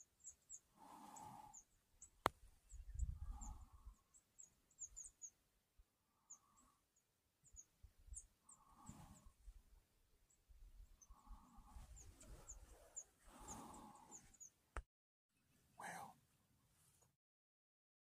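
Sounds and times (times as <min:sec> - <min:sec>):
small birds chirping: 0:00.0 - 0:09.6, 0:10.2 - 0:14.7, 0:15.3 - 0:16.8.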